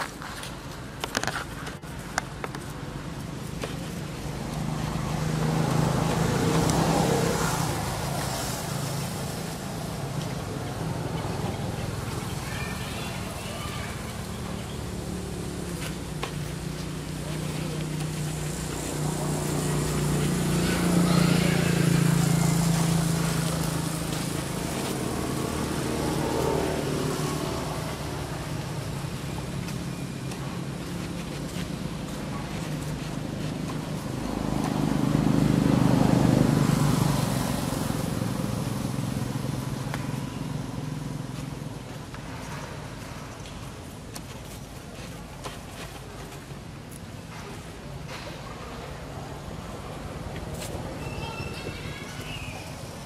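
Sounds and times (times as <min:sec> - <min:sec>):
motor vehicles passing by: 0:00.0 - 0:53.0.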